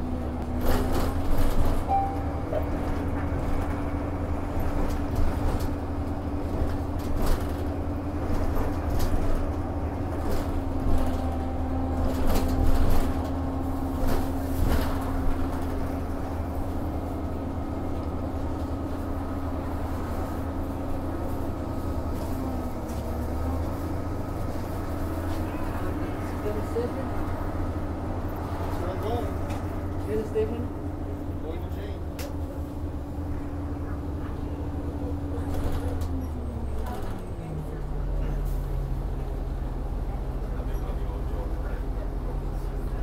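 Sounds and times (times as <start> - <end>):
bus engine humming: 0.0 - 43.0.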